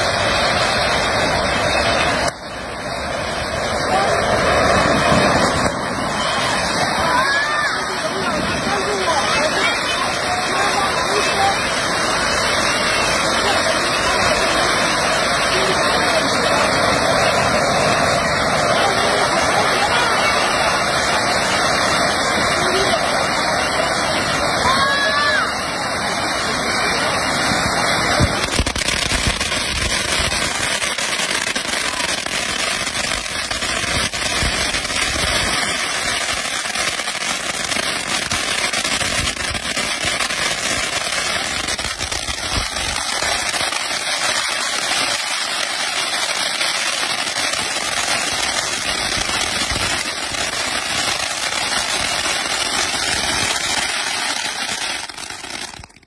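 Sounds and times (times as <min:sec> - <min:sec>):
firework hissing and crackling: 0:00.0 - 0:56.0.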